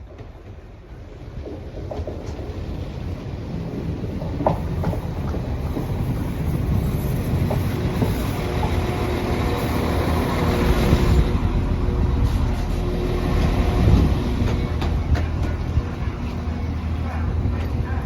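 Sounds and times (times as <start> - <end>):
train engine and wheels rumbling: 0.0 - 18.0.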